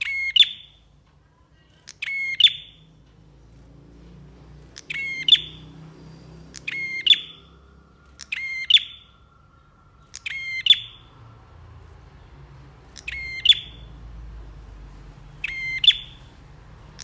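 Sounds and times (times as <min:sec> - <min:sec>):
bird song of rapid high notes: 0:00.0 - 0:01.0, 0:01.6 - 0:17.0.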